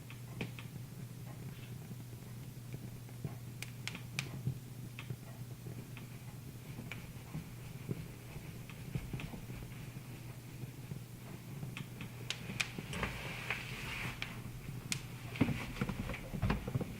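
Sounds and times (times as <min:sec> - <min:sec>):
low steady hum: 0:00.0 - 0:16.9
wood fire crackling: 0:00.0 - 0:16.9.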